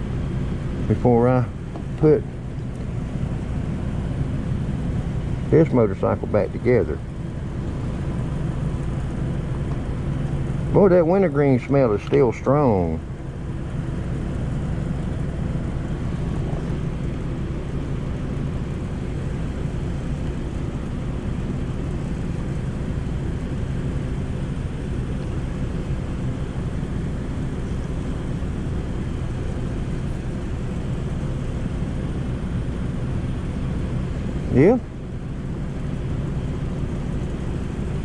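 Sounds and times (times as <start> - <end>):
low mechanical hum: 0.0 - 38.0
noisy hiss: 0.0 - 38.0.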